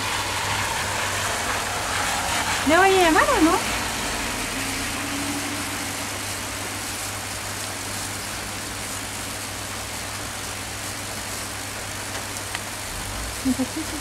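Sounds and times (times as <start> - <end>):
crackling hiss of electrical discharge: 0.0 - 14.0.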